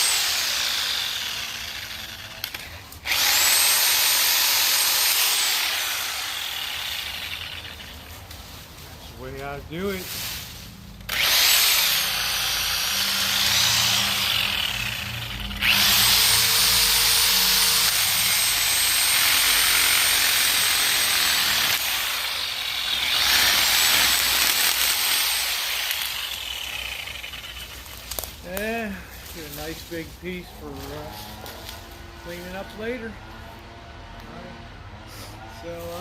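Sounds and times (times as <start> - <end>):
reciprocating saw cutting branches: 0.0 - 33.8.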